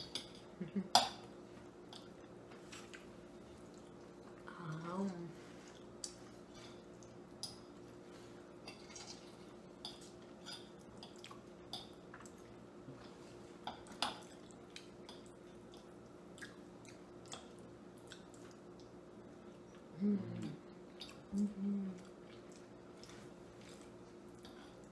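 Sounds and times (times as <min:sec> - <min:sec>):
low steady hum: 0:00.0 - 0:24.9
faint chewing: 0:01.5 - 0:24.9.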